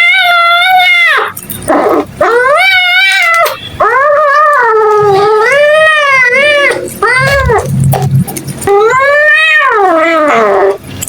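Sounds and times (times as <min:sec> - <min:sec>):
cat yowling: 0:00.0 - 0:10.9.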